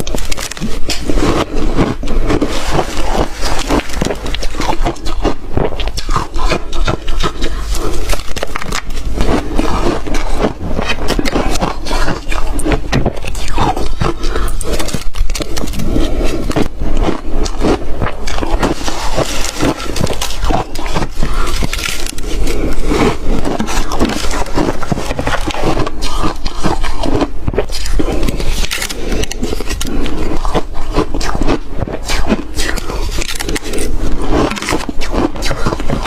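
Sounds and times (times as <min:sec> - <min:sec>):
ice being crunched and chewed: 0:00.0 - 0:36.0.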